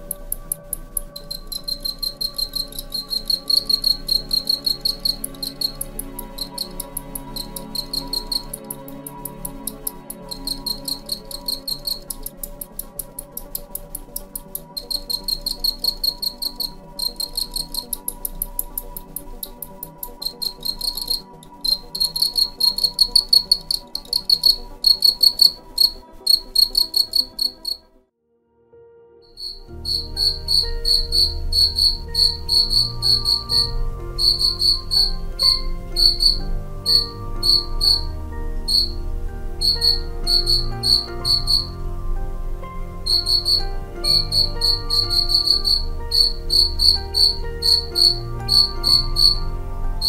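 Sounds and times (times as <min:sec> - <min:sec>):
crickets chirping: 0:00.0 - 0:27.9, 0:29.3 - 0:50.0.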